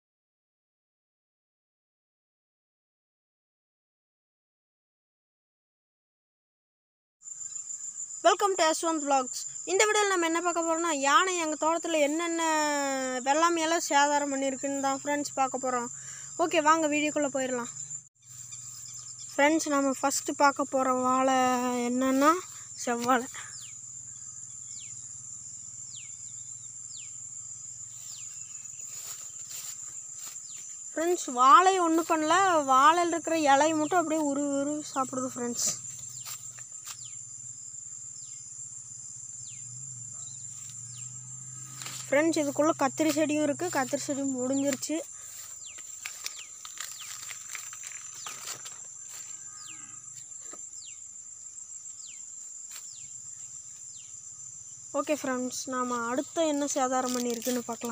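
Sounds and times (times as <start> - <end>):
crickets chirring: 7.2 - 57.9
high-pitched insect drone: 7.3 - 57.9.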